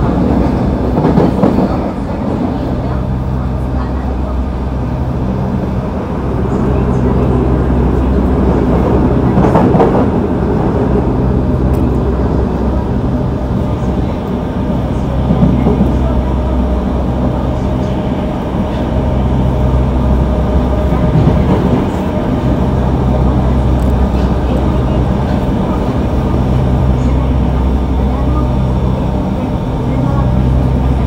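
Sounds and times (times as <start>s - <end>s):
train motor hum: 0.0s - 31.0s
wheel and rail noise: 0.0s - 31.0s.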